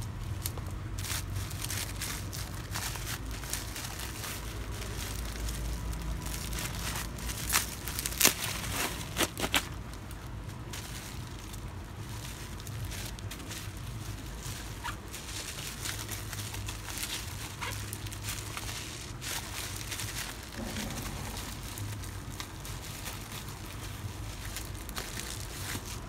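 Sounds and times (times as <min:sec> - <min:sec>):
bubble wrap crackling: 0:00.0 - 0:26.0.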